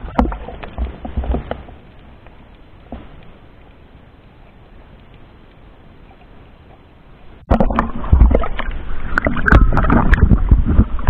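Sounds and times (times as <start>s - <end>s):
water splashing against camera: 0.0s - 11.0s.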